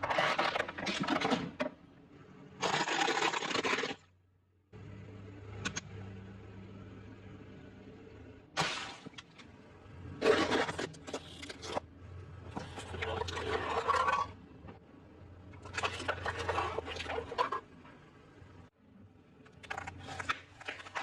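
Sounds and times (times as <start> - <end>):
steady low hum: 4.2 - 21.0.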